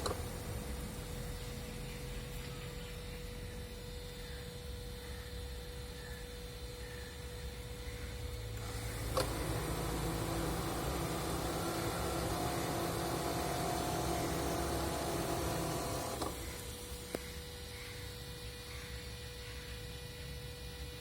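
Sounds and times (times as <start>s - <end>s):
air-conditioning compressor humming: 0.0s - 21.0s.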